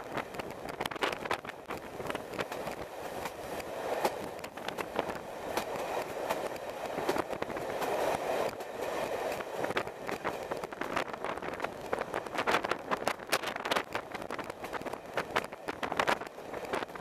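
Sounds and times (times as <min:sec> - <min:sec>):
train wheel and air rush: 0:00.0 - 0:17.0
wheels clicking over rail joints: 0:00.0 - 0:17.0.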